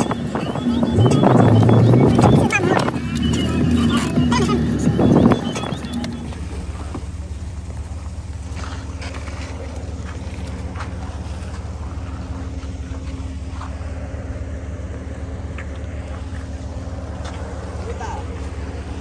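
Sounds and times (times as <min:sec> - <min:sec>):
pickup truck engine idling: 0:00.0 - 0:19.0.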